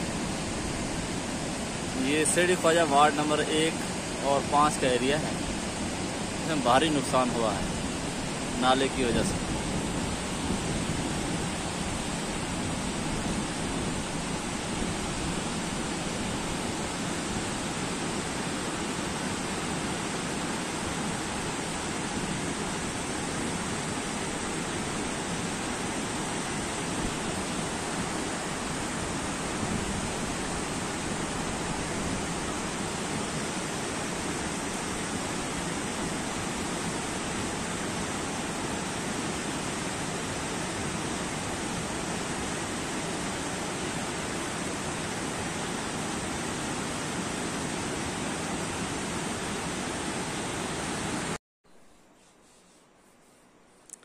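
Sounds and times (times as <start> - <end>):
stream rushing over rocks: 0.0 - 51.4.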